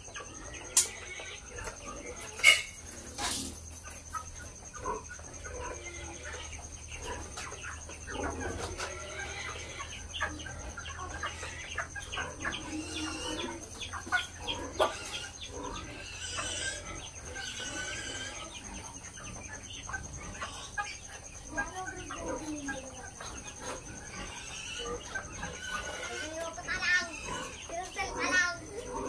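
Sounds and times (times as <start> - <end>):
chickens clucking and peeping: 0.0 - 29.0.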